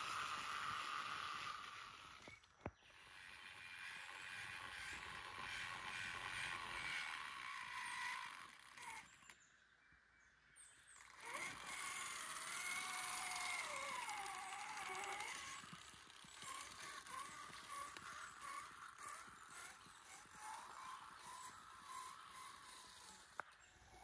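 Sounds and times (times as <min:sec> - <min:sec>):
toy car electric motor whining: 0:00.0 - 0:09.4, 0:10.8 - 0:24.0.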